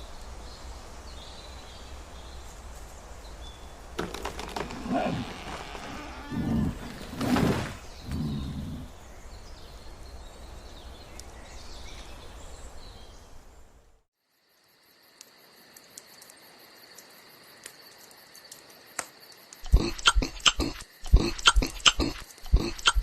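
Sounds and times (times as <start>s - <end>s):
insect drone: 0.0s - 23.0s
steady outdoor noise: 0.0s - 23.0s.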